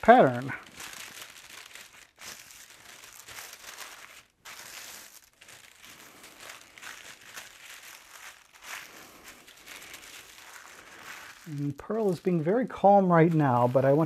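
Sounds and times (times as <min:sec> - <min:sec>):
thin paper rustling and crinkling: 0:00.0 - 0:14.0.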